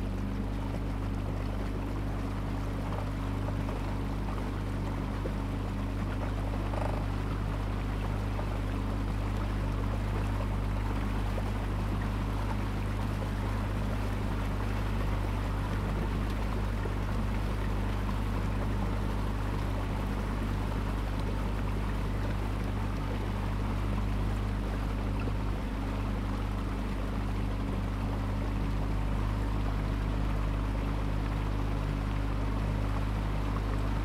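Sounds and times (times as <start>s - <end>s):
boat engine humming: 0.0s - 34.0s
water rushing along hull: 0.0s - 34.0s.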